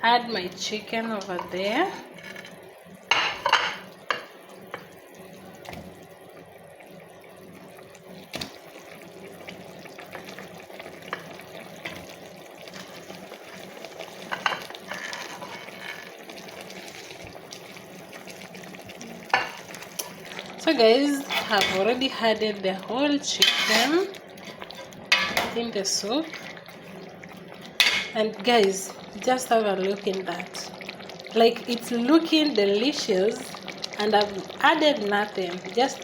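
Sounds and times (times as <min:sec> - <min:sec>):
stew bubbling: 0:03.9 - 0:36.0.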